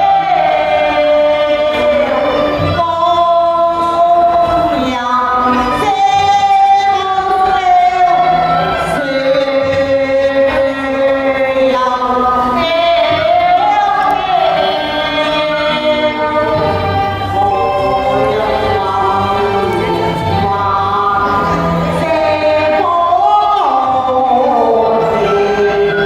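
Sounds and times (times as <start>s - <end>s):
choir-like singing with accompaniment: 0.0s - 26.0s.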